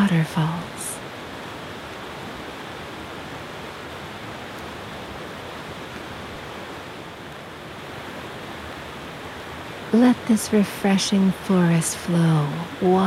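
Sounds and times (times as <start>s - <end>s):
stream rushing over boulders: 0.0s - 13.0s.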